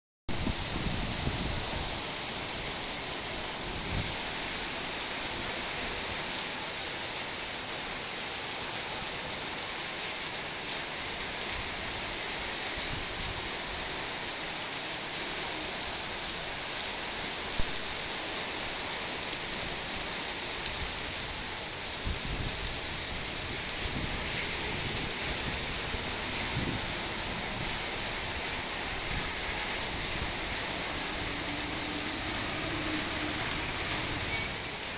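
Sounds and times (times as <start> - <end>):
heavy rain on pavement: 0.3 - 34.9.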